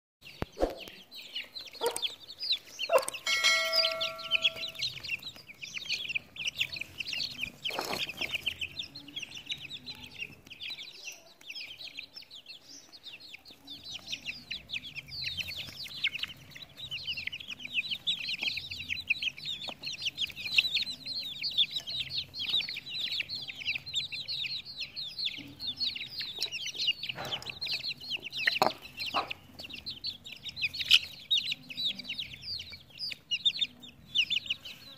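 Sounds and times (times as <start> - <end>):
chicks peeping and chirping: 0.2 - 34.9.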